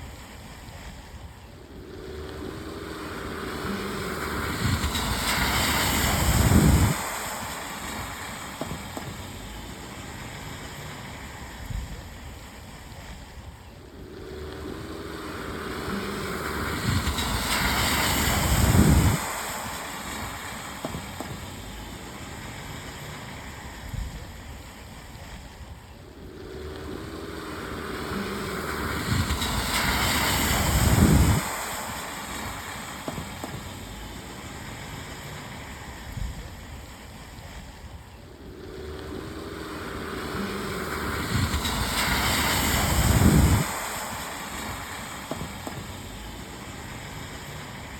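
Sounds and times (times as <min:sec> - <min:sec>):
cars splashing through puddles: 0:00.0 - 0:47.9
rain: 0:00.0 - 0:47.9.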